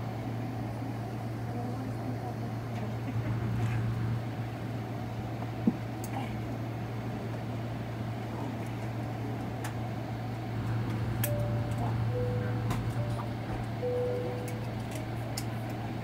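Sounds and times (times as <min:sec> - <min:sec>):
cabin ventilation hum: 0:00.0 - 0:16.0.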